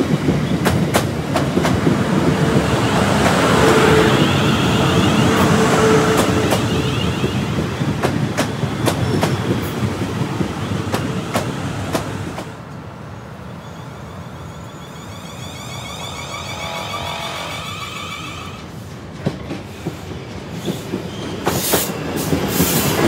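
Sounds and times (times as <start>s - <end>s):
train passing with wheel noise: 0.0s - 23.0s.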